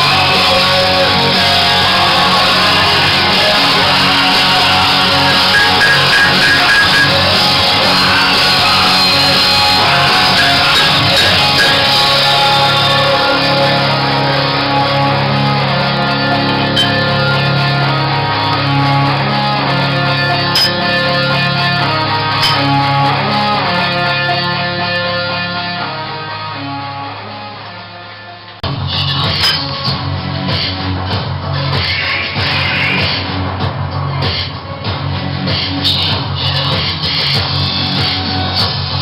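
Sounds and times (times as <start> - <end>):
guitar rock music: 0.0 - 39.0.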